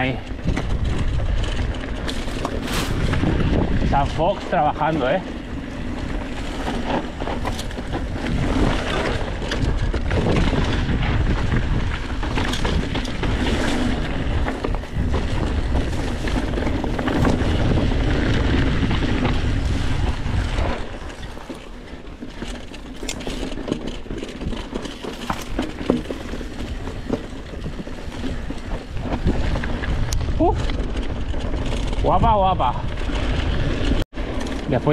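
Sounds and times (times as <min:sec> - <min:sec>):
bike rattling: 0:00.0 - 0:34.9
tyres on loose stones: 0:00.0 - 0:34.9
wind rushing over microphone: 0:00.0 - 0:34.9.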